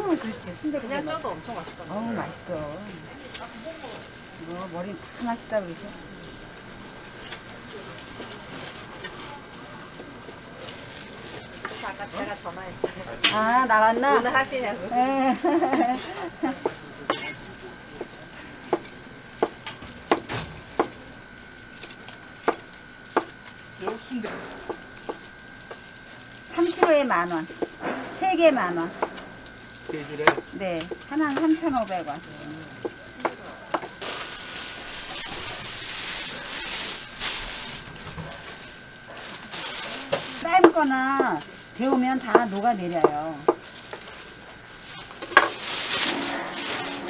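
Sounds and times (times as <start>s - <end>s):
plastic bag and gloves crinkling: 0.0s - 47.0s.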